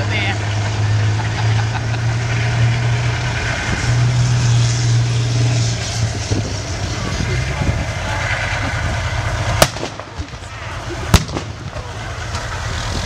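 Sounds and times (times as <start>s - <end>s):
tank engines droning: 0.0s - 13.0s.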